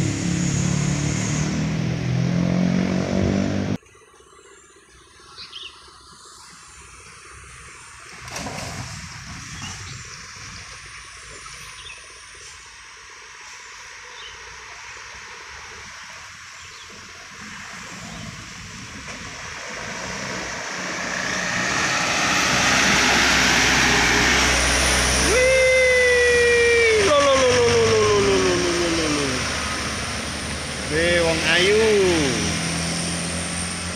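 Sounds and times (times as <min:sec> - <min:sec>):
truck engine hum: 0:00.0 - 0:04.6, 0:10.8 - 0:33.9.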